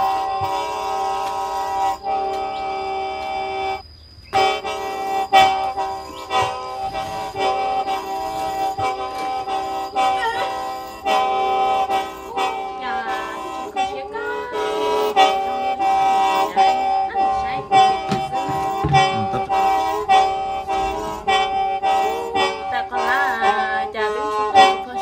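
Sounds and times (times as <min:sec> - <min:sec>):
bamboo mouth organ chord: 0:00.0 - 0:25.0.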